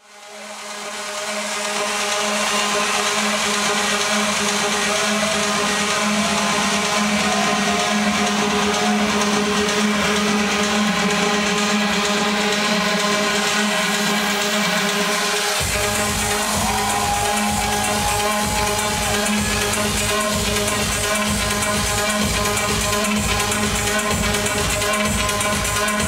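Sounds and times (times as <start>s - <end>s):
loud techno music: 0.0s - 26.0s.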